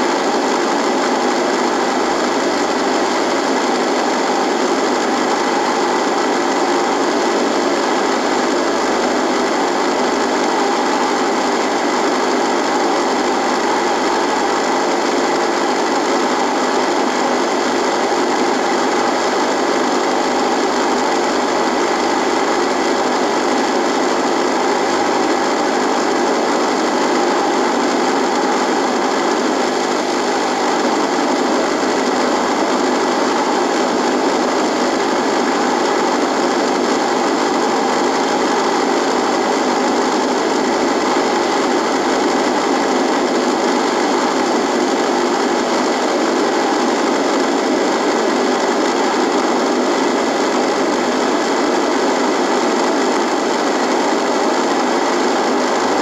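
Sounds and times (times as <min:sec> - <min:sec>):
radio static buzz: 0:00.0 - 0:56.0.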